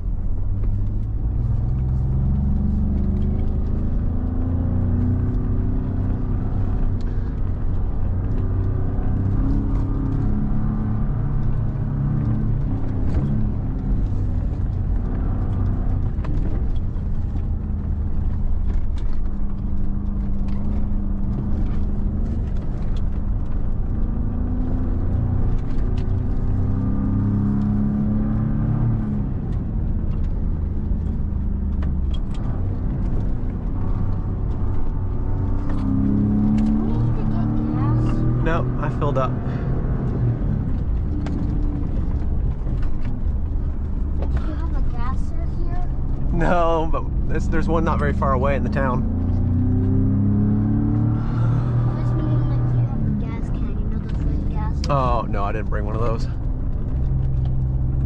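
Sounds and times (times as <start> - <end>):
truck engine revving: 0.9 - 58.0.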